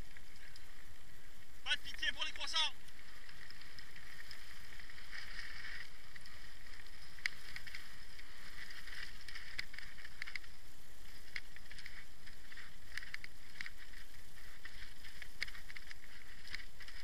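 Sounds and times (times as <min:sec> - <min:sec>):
bike tyres rolling on gravel: 0:00.0 - 0:17.0
wheels striking stones: 0:02.8 - 0:17.0.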